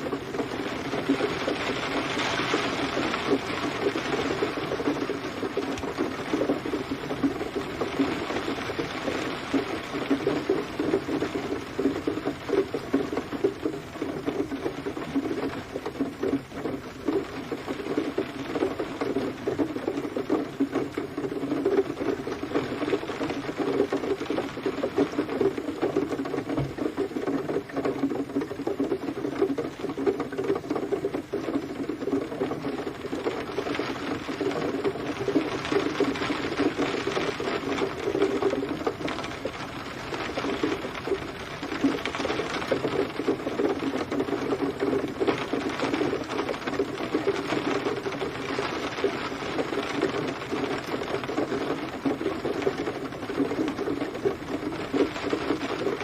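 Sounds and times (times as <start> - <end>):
rain pattering on hard surface: 0.0 - 56.0.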